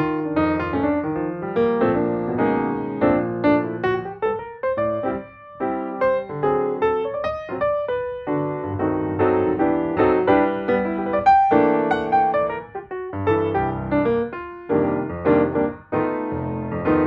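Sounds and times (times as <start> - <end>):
piano tune: 0.0 - 17.0.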